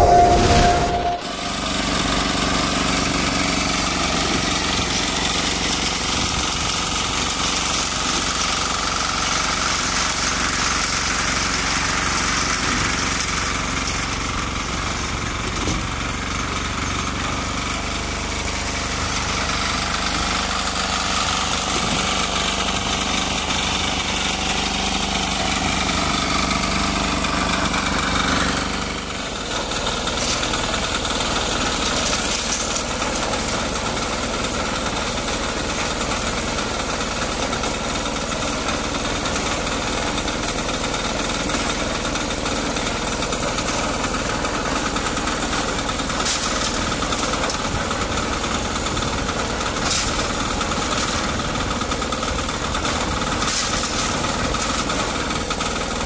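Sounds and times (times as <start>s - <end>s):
concrete mixer engine running: 0.0s - 56.0s.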